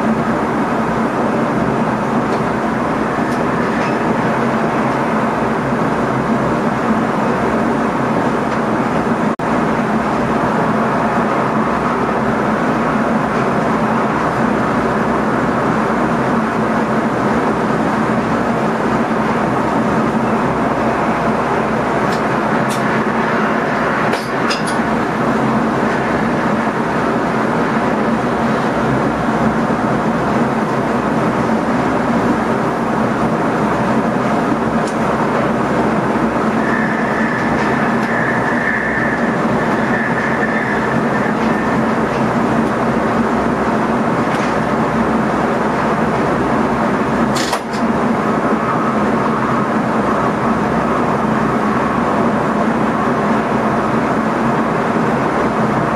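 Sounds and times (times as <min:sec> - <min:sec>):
electric train running noise: 0:00.0 - 0:55.9.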